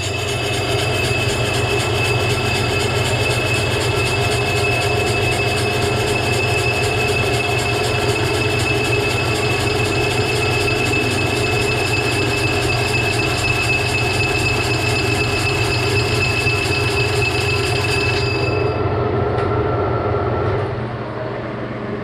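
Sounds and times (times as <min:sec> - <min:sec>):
lathe tool high ringing squeal: 0:00.0 - 0:18.9
lathe running noise: 0:00.0 - 0:21.8.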